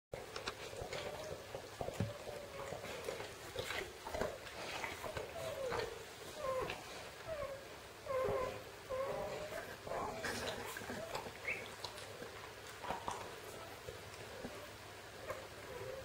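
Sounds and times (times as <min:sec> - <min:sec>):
puppies squeaking and whimpering: 0:00.7 - 0:16.0.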